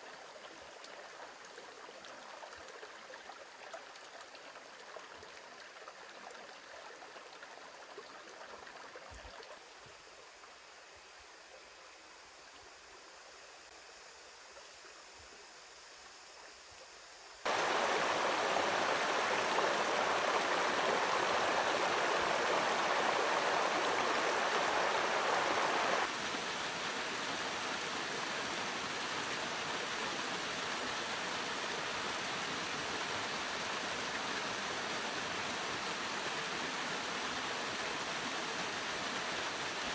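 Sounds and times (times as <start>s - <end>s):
stream flowing over stones: 0.0s - 10.6s, 17.4s - 39.9s.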